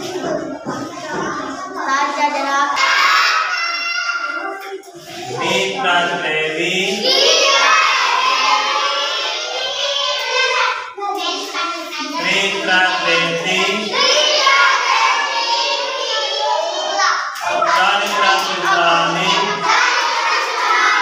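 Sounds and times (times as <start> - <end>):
children chanting in unison: 0.0 - 21.0.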